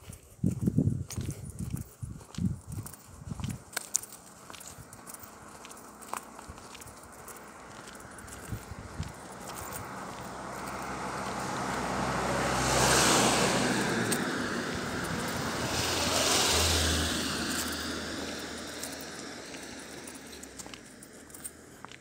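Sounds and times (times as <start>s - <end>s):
cars passing on asphalt: 0.0s - 22.0s.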